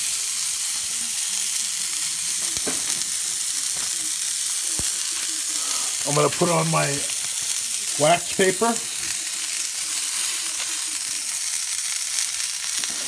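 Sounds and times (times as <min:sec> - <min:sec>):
beef sizzling on a griddle: 0:00.0 - 0:13.0.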